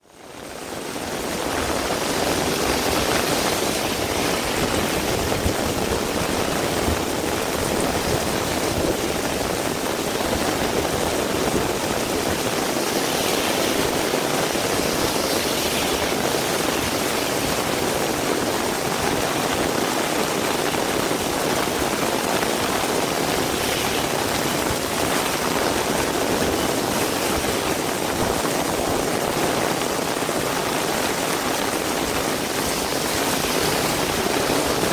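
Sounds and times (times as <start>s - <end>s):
heavy rain downpour: 0.0s - 34.9s.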